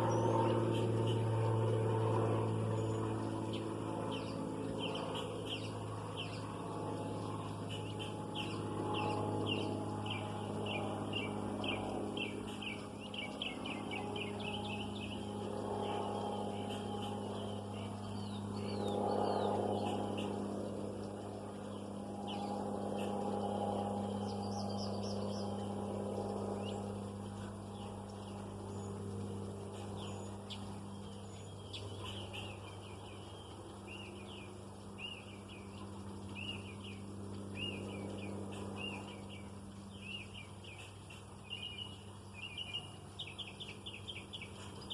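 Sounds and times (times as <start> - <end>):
small birds chirping: 0.0 - 44.9
steady low hum: 0.0 - 44.9.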